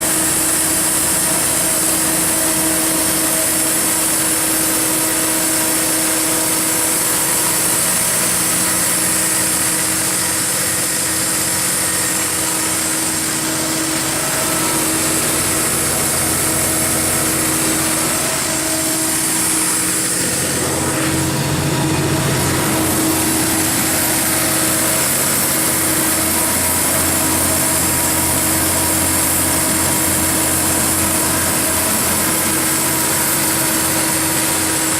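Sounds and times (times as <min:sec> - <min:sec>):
diesel generator engine drone: 0:00.0 - 0:34.9
high steady whine: 0:00.0 - 0:34.9.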